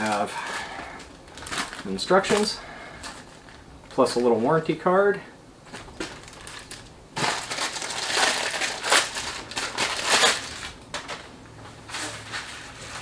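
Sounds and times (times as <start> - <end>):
packaging crinkling: 0.0 - 4.4, 5.6 - 13.0.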